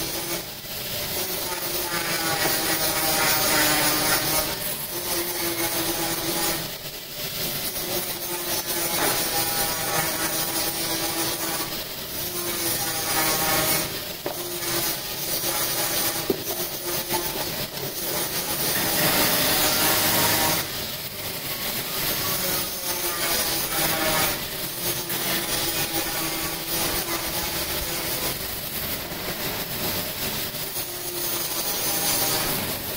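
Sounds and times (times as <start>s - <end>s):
buffing wheel grinding metal: 0.0s - 32.9s.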